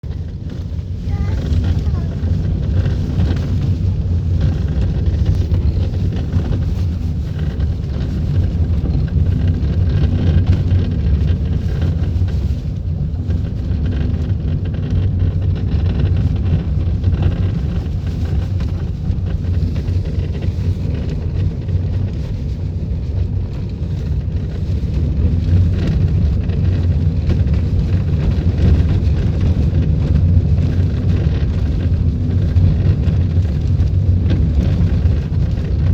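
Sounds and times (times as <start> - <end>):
low rumble inside car: 0.0 - 35.9.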